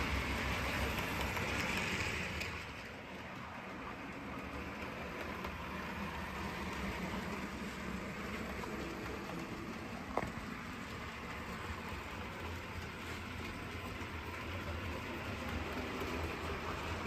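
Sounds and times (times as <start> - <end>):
model locomotive humming: 0.0 - 17.0.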